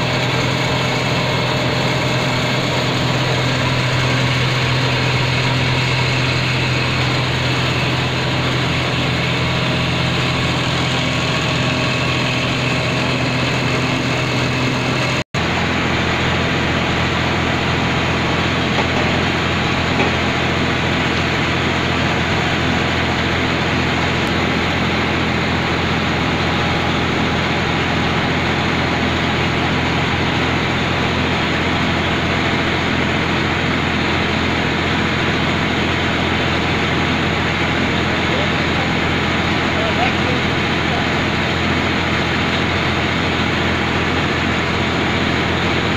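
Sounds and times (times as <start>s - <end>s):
machine motors humming: 0.0s - 45.9s.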